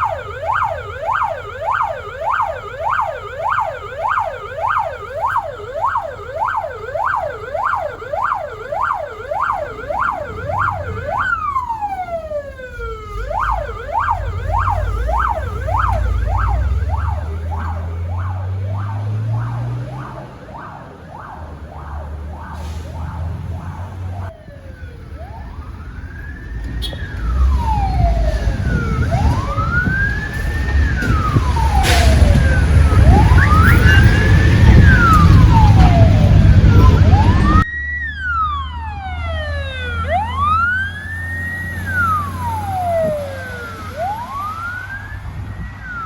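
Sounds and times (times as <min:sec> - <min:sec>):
fire truck siren: 0:00.0 - 0:46.0
truck engine rumbling: 0:00.0 - 0:46.0.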